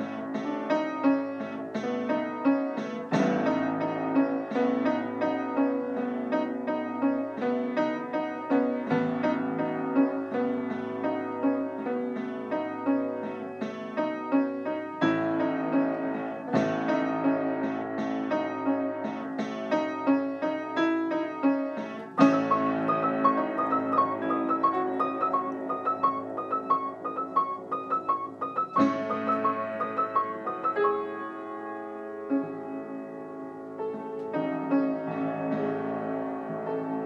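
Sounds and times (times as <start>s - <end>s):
piano music with chords: 0.0s - 37.0s.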